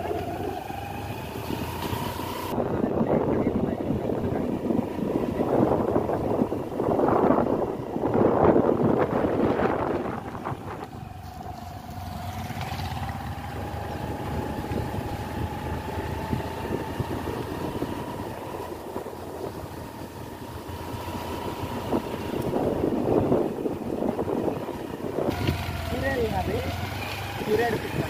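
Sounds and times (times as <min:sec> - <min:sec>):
motorcycle engine whine: 0:00.0 - 0:28.0.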